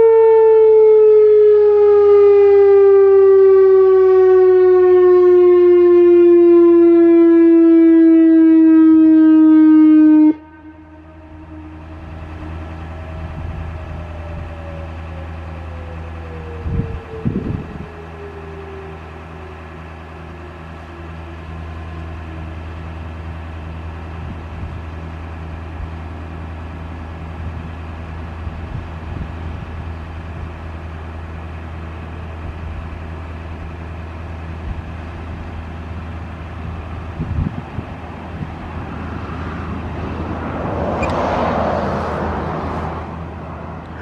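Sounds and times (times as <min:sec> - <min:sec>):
low engine hum: 0:00.0 - 0:44.0.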